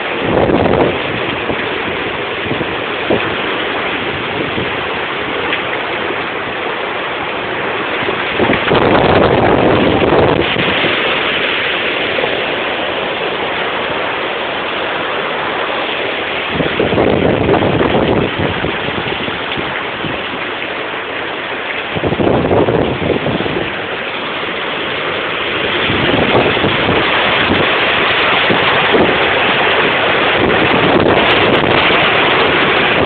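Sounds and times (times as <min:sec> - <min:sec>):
rain falling: 0:00.0 - 0:33.0
storm wind buffeting microphone: 0:00.0 - 0:33.0.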